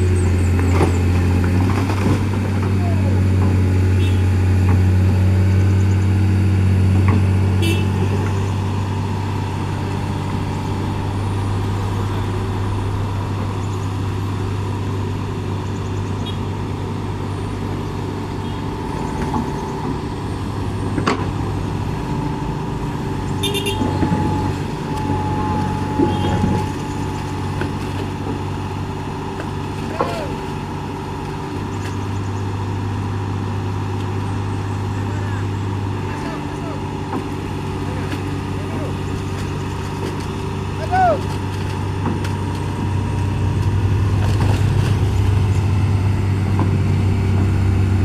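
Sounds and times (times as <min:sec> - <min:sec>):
heavy vehicle engine humming: 0:00.0 - 0:48.0.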